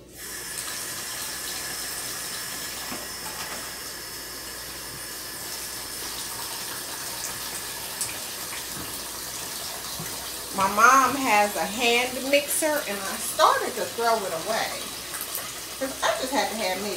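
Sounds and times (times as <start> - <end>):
electric hand mixer beating batter: 0.0 - 16.9.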